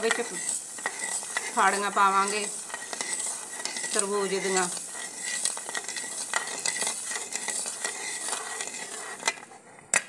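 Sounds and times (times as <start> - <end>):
ladle scraping iron pan: 0.0 - 9.4.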